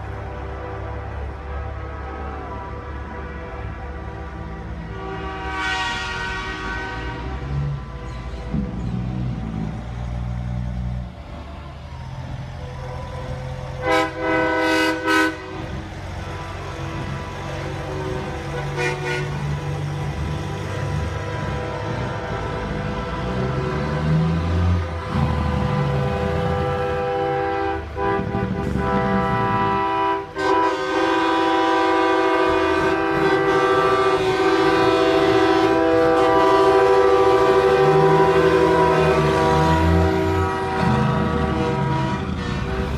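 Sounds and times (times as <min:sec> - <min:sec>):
truck horn: 0:00.0 - 0:08.9, 0:13.7 - 0:42.9
truck engines rumbling: 0:00.0 - 0:42.9.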